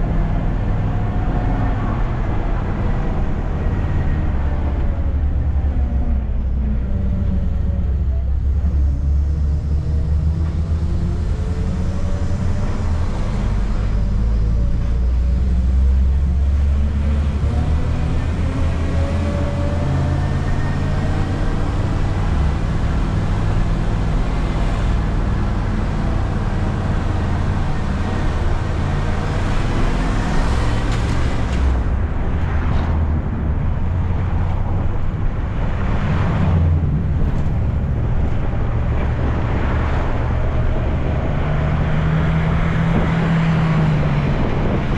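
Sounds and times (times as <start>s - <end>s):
bus engine running: 0.0s - 44.9s
road traffic noise: 0.0s - 44.9s.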